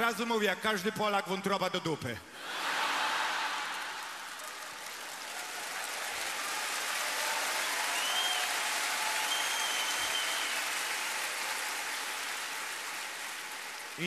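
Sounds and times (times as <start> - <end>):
audience applauding: 2.4 - 14.0.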